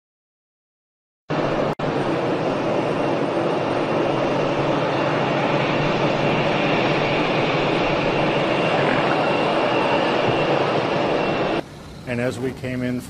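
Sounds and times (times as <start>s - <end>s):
aircraft engine running: 1.3s - 12.9s
faint high whine: 1.3s - 13.0s.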